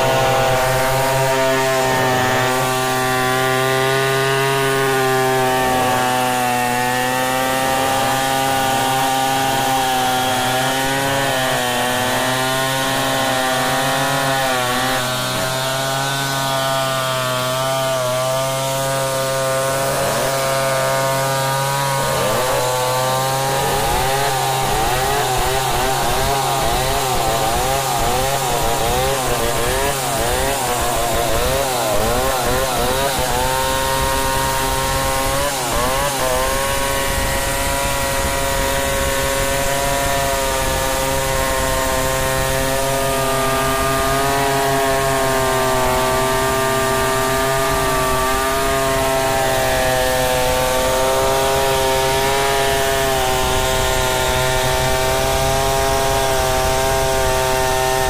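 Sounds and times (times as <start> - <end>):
chainsaw cutting log: 0.0 - 58.0
second chainsaw cutting: 0.0 - 58.0.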